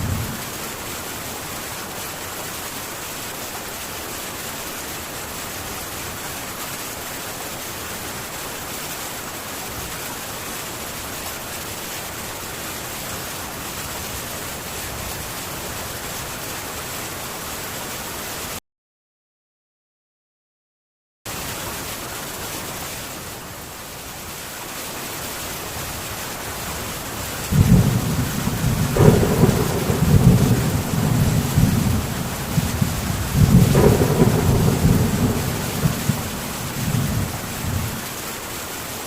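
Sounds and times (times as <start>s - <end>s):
heavy rain on a tin roof: 0.0s - 18.6s, 21.3s - 39.0s.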